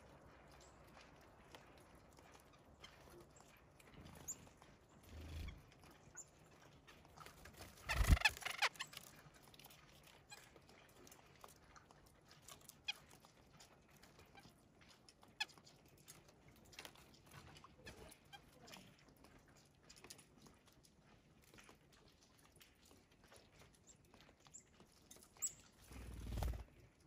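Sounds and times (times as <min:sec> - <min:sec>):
birds pecking and landing: 0:00.1 - 0:22.2, 0:24.4 - 0:27.0.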